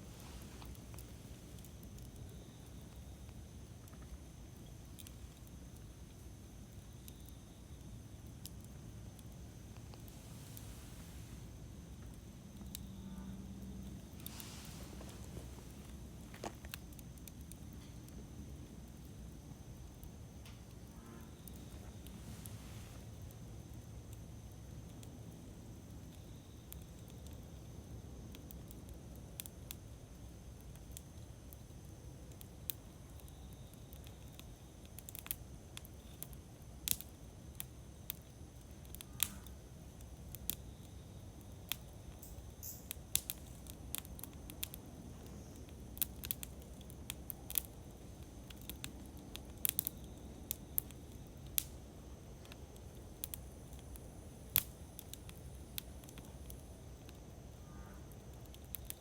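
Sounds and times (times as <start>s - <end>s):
low rumble of flames: 0.0s - 59.0s
wood crackling and popping: 0.0s - 59.0s.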